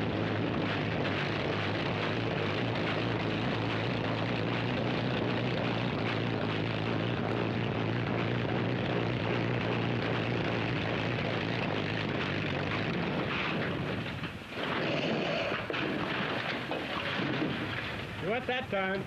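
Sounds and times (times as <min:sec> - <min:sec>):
helicopter engine humming: 0:00.0 - 0:19.0
rough noisy background: 0:00.0 - 0:19.0.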